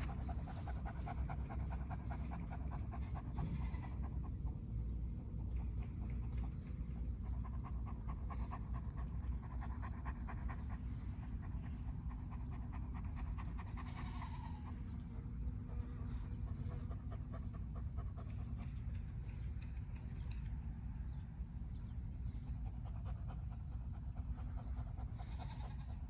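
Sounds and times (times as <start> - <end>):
dog panting: 0.0 - 20.5, 21.9 - 26.0.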